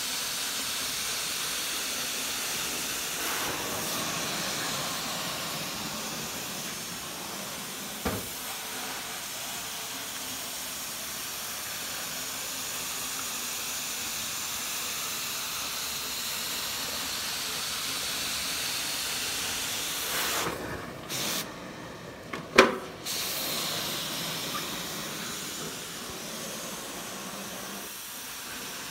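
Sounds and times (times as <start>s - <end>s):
carpet cleaner spray hissing: 0.0s - 28.9s.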